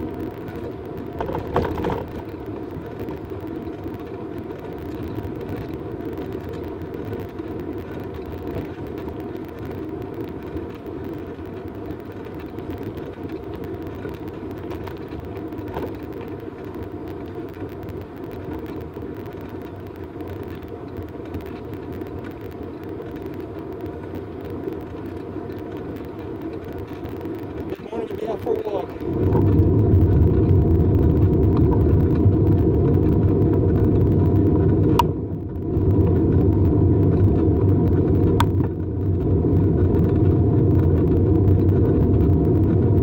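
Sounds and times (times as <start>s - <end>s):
bicycle tyres on asphalt: 0.0s - 43.0s.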